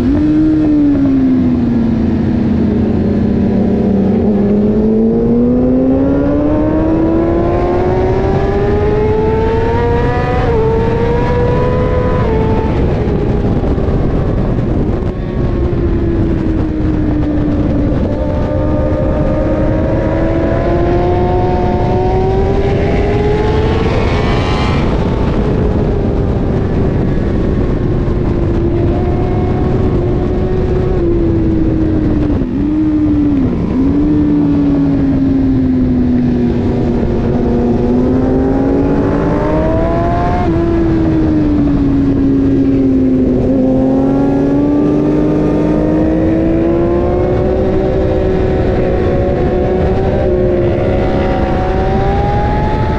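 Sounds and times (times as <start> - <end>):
motorcycle engine revving: 0.0 - 52.9
wind rush on microphone: 0.0 - 52.9.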